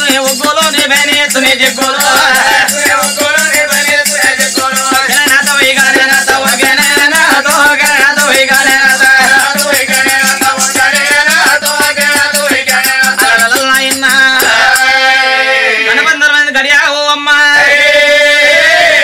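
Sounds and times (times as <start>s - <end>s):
percussion fast beat: 0.0s - 15.6s.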